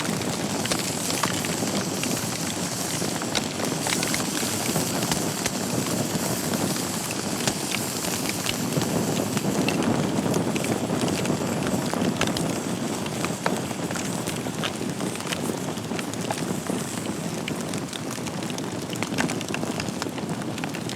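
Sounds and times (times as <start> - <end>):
flames rushing: 0.0 - 20.7
logs crackling and popping: 0.0 - 20.9.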